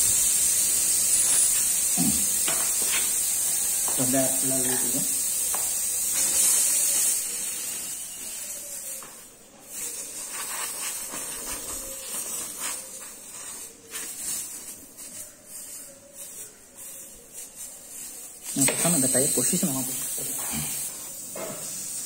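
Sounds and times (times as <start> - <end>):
air hissing from tyre: 0.0 - 22.0
short hisses and rustles: 0.0 - 22.0.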